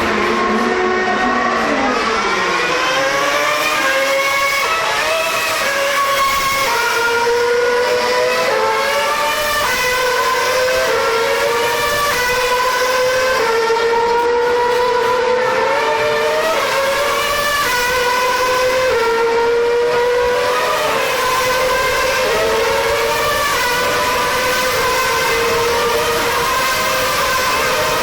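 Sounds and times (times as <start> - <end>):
racing car engine at high revs: 0.0 - 28.0.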